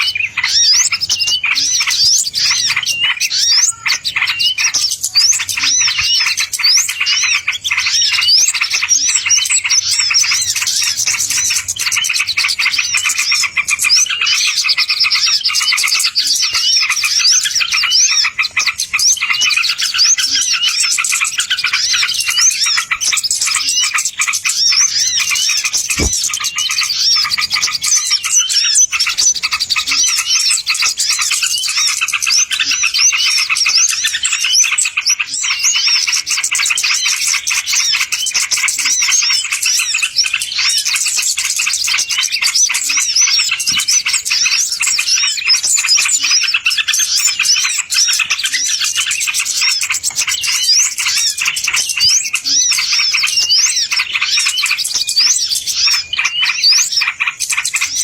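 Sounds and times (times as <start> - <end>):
small birds chirping and twittering: 0.0 - 58.0.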